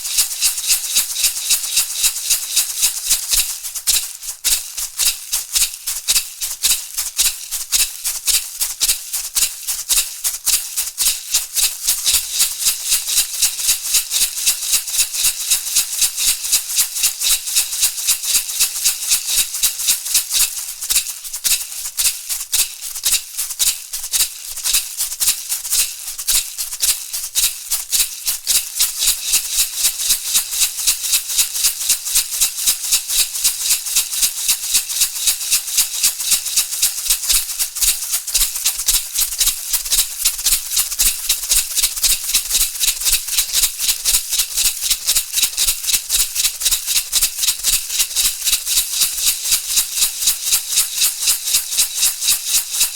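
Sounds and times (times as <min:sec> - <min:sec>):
hand rattle shaken: 0:00.0 - 0:52.9.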